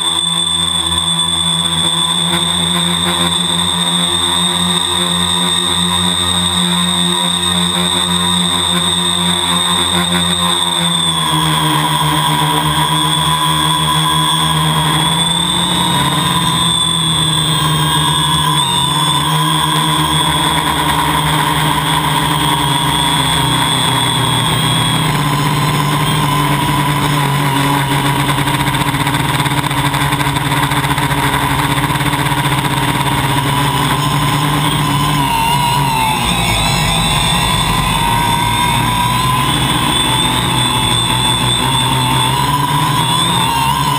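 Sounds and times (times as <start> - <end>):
drone propellers whining: 0.0 - 43.9.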